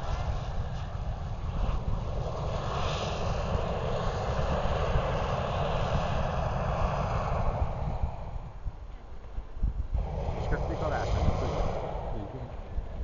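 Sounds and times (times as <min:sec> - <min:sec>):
low rumble: 0:00.0 - 0:13.0
propane burner roaring: 0:00.0 - 0:13.0.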